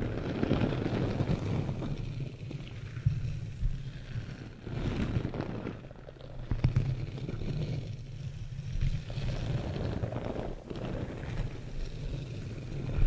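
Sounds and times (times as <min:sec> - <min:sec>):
rubbing on microphone: 0:00.0 - 0:13.0.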